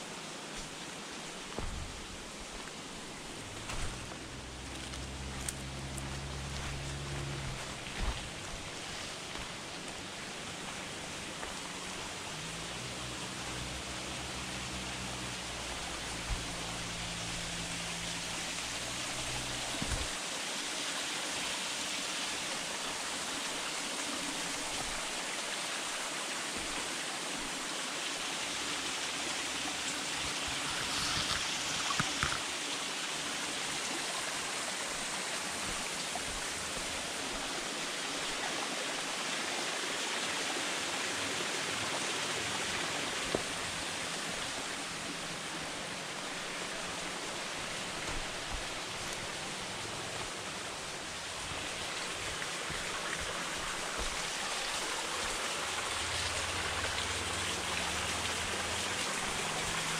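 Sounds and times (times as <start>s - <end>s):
creek water rushing over rocks: 0.0s - 59.9s.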